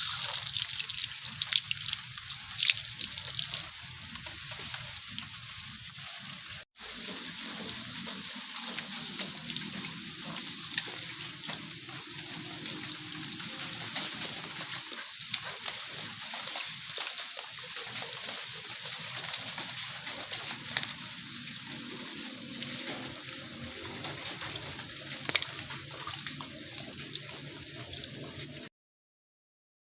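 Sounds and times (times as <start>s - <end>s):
sharp drips and splashes: 0.0s - 28.7s
steady rain falling: 2.0s - 28.7s.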